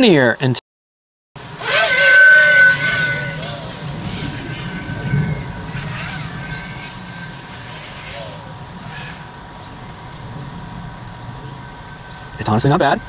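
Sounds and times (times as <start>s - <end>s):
drone propellers whining: 1.4s - 13.0s.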